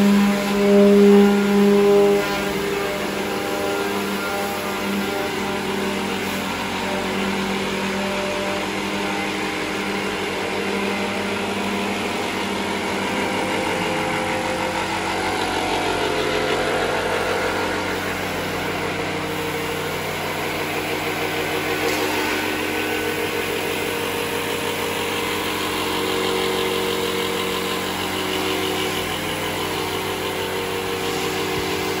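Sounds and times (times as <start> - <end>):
orbital sander on wood: 0.0 - 32.0
table saw cutting boards: 0.0 - 32.0.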